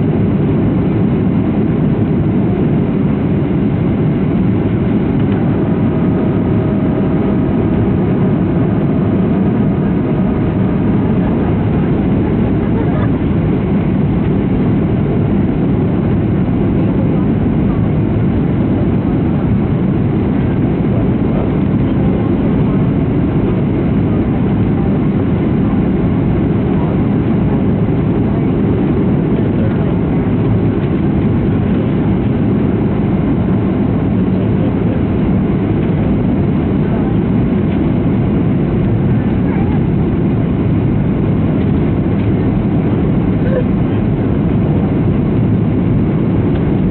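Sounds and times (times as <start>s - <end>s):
airplane cabin engine roar: 0.0s - 46.9s.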